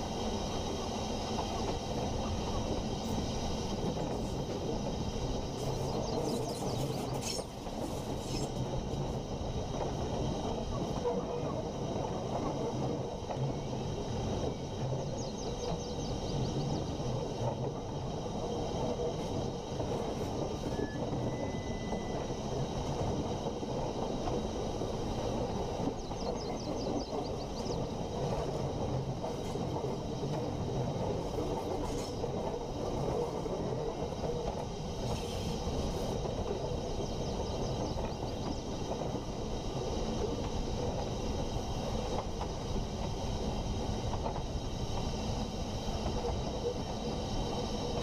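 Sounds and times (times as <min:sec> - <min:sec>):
train rumbling on rails: 0:00.0 - 0:48.0.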